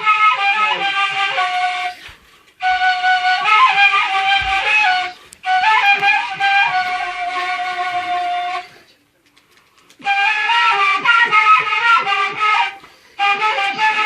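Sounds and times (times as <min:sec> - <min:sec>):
end-blown flute playing: 0:00.0 - 0:08.8, 0:10.0 - 0:14.0.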